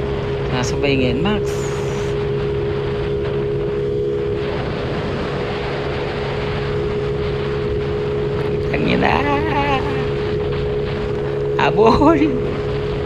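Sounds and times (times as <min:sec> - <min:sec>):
scooter engine cruising: 0:00.0 - 0:13.0
wind buffeting microphone: 0:00.0 - 0:13.0.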